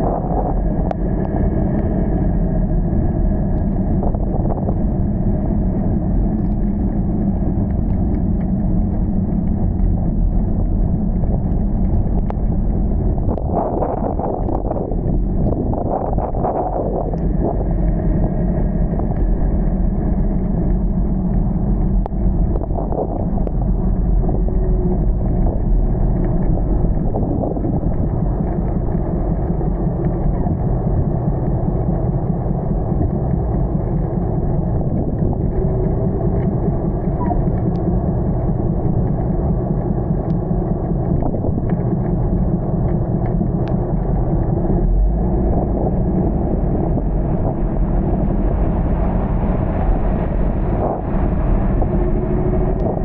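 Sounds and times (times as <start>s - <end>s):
vehicle rumbling: 0.0s - 53.0s.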